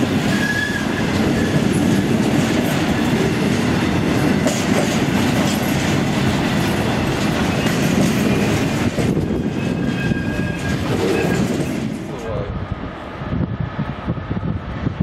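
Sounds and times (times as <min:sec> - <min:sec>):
wheels clattering over rail joints: 0:00.0 - 0:12.4
freight train rumbling past: 0:00.0 - 0:15.0.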